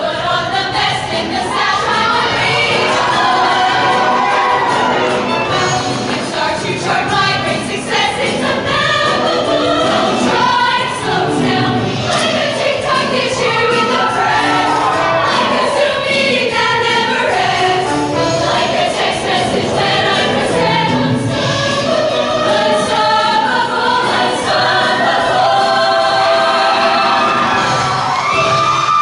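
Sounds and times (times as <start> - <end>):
choir singing in harmony: 0.0 - 28.6
musical accompaniment: 0.0 - 29.0.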